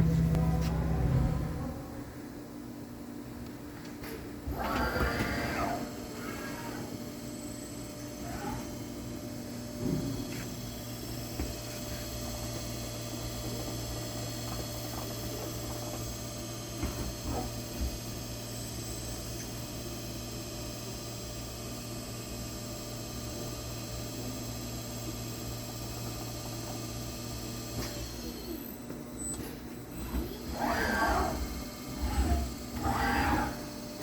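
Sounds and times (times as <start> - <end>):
electrical machinery hum: 0.0 - 34.0.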